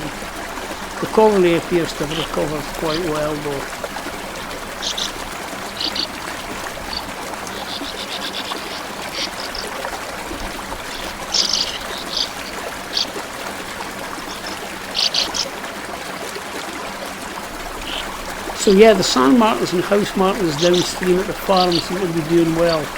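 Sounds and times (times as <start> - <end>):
birds chirping: 0.0 - 15.7, 17.4 - 22.9
small stream flowing: 0.0 - 22.9.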